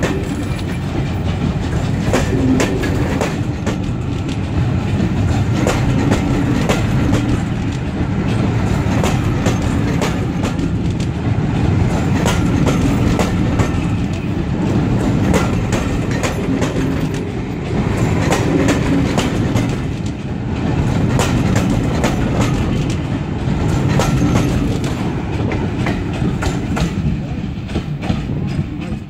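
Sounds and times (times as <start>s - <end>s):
train wheels clattering over rails: 0.0s - 29.0s.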